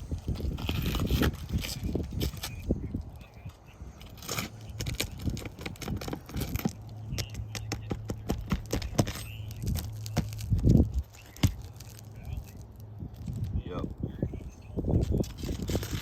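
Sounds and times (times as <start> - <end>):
tools scraping on shingle roof: 0.0 - 12.7, 14.9 - 16.0
footsteps on shingle roof: 0.0 - 14.1
steady low hum: 0.0 - 16.0.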